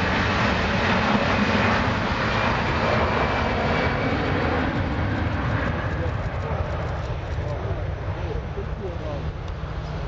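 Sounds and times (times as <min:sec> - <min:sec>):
jet engines at takeoff thrust: 0:00.0 - 0:10.0.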